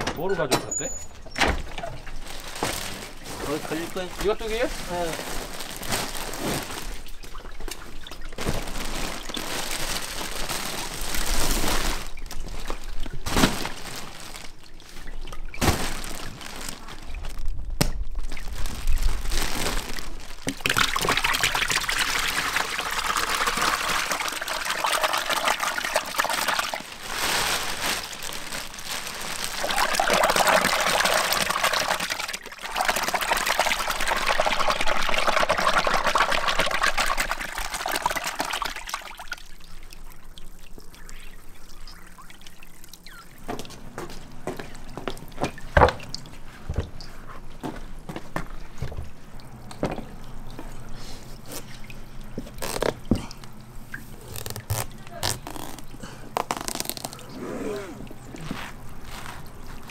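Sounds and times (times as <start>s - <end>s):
water pouring and trickling: 1.7s - 47.8s, 48.4s - 59.9s.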